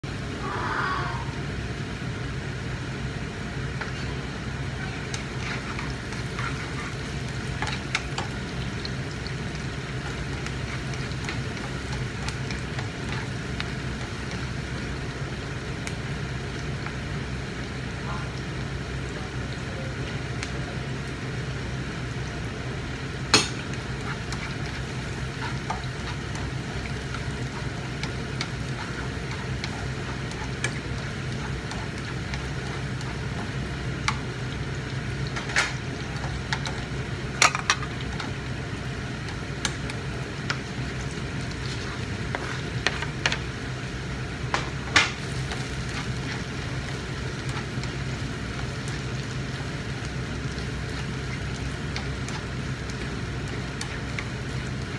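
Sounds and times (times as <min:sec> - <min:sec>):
low steady hum: 0:00.0 - 0:54.9
vegetables sizzling in a frying pan: 0:00.0 - 0:54.9.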